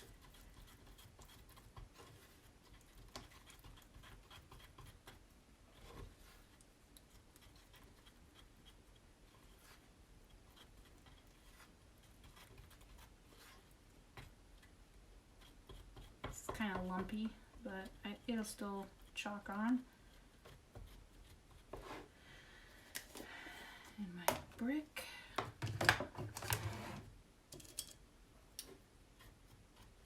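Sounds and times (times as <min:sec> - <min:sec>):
thick paste stirred: 0:00.0 - 0:24.6, 0:28.6 - 0:30.0.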